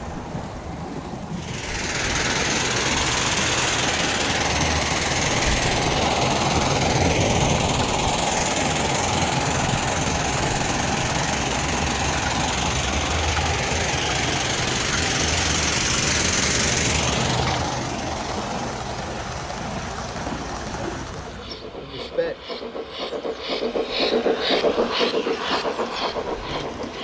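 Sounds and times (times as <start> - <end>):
model train rumbling with hiss: 0.0 - 27.0.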